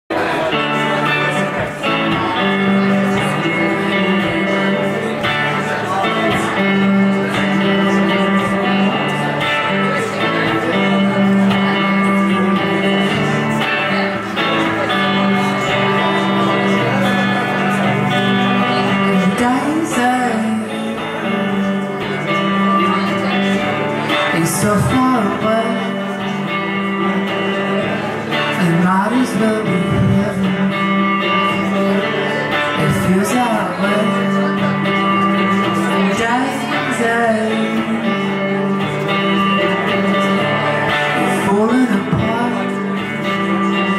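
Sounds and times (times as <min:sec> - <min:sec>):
electric guitar chords: 0:00.1 - 0:43.9
man singing: 0:00.1 - 0:43.9.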